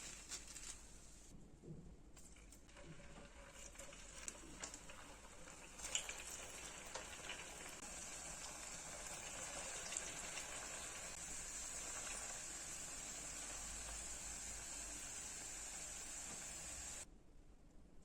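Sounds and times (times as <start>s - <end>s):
slices frying in hot oil: 2.3s - 17.0s.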